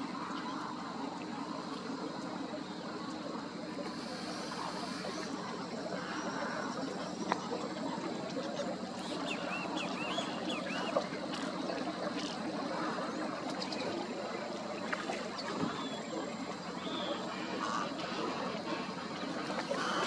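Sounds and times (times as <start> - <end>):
birds chorus: 2.6 - 20.0.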